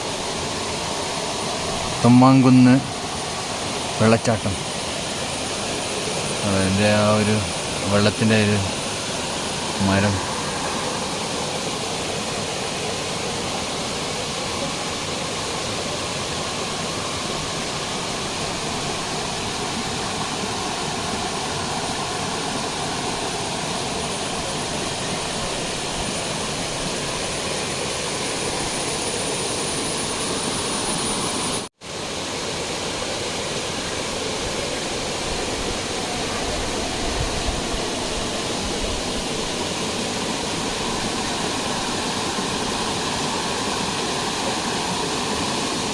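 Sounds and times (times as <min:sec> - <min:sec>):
waterfall rushing over rock: 0:00.0 - 0:45.9.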